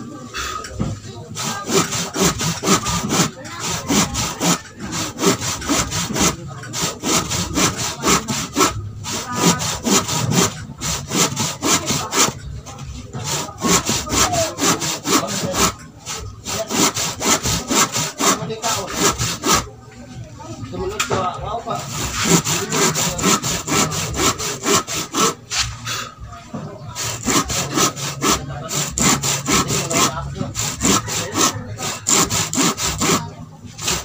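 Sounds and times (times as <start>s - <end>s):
handsaw cutting wood: 1.0s - 19.7s, 21.7s - 25.8s, 26.9s - 34.0s.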